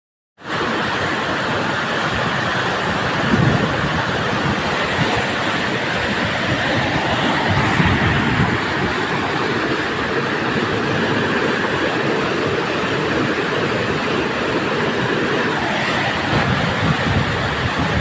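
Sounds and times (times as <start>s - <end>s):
river rapids roaring: 0.4s - 18.0s.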